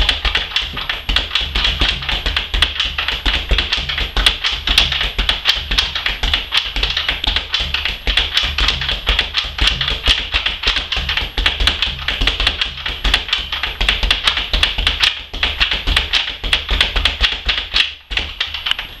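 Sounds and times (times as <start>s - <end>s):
speed bag being punched: 0.0s - 19.0s.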